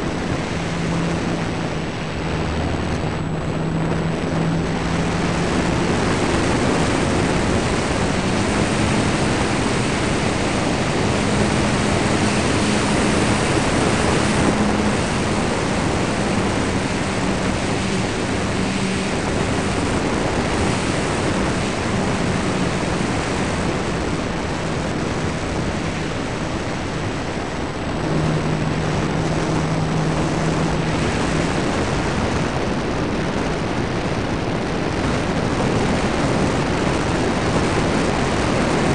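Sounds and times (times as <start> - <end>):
electric motor and propeller hum: 0.0 - 38.9
rushing wind: 0.0 - 38.9.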